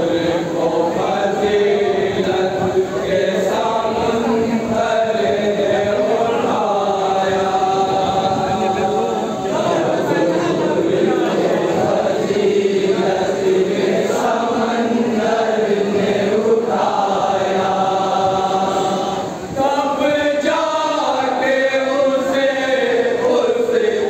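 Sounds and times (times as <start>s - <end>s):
men chanting a mourning lament: 0.0s - 24.0s.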